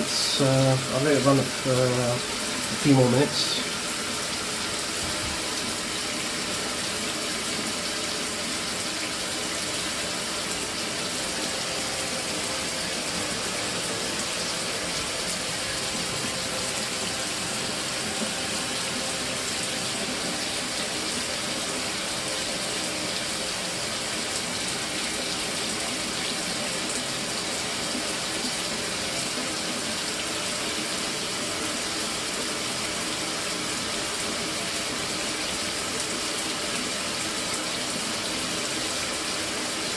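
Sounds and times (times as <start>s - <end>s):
electric shower water flowing: 0.0s - 39.9s.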